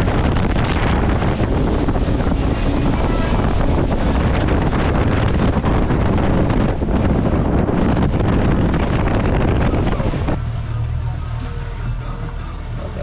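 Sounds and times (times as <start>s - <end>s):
boat engine: 0.0s - 13.0s
water rushing: 0.0s - 13.0s
wind buffeting microphone: 0.0s - 13.0s.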